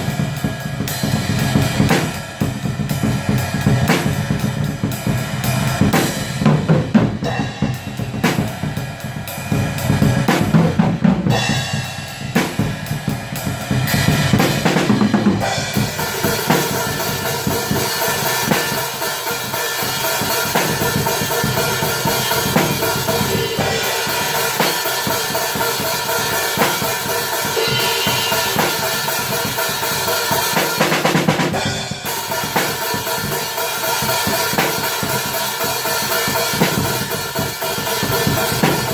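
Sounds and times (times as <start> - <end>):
black metal music: 0.0 - 38.9
rapid drumming: 0.0 - 38.9.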